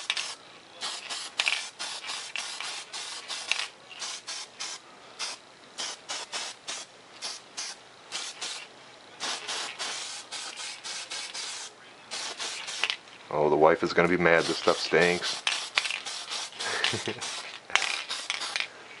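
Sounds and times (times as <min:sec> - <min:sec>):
spray can hissing bursts: 0:00.0 - 0:13.0, 0:14.2 - 0:18.7.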